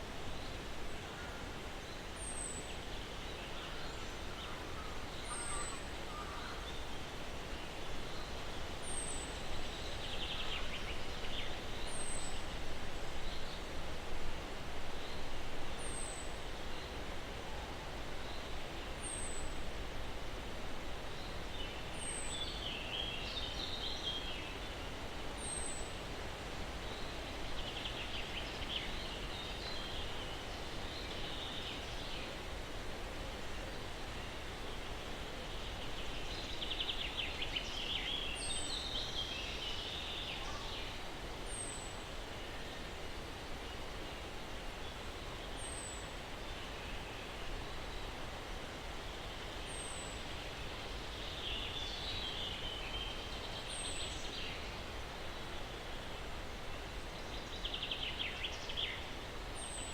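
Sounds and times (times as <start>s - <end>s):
breeze through pine trees: 0.0s - 59.9s.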